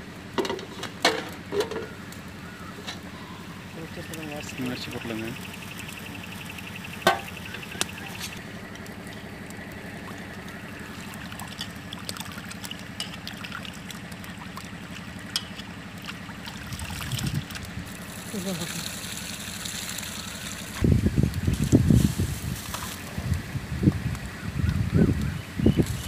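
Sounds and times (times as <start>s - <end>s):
steady low hum: 0.0s - 26.0s
water swishing and trickling: 1.3s - 25.1s.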